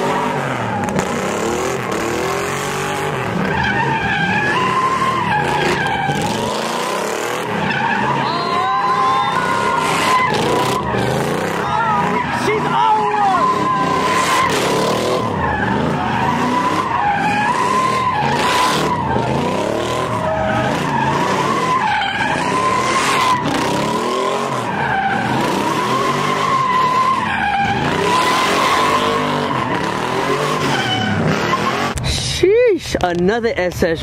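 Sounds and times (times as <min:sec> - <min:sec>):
car engine revving: 0:00.0 - 0:32.0
tires squealing: 0:00.0 - 0:32.0.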